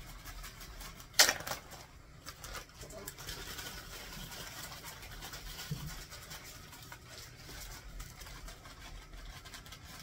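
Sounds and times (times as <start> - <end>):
onion pieces pattering into pan: 0.0 - 10.0
plastic bag rustling: 0.0 - 10.0.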